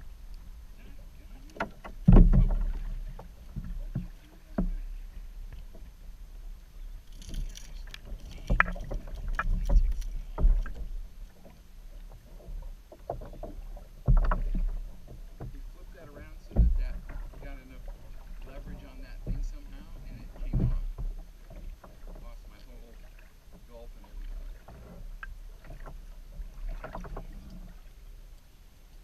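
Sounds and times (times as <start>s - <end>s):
water lapping against hull: 0.0s - 29.0s
knocks and thumps on hull: 0.8s - 6.1s, 7.1s - 28.0s.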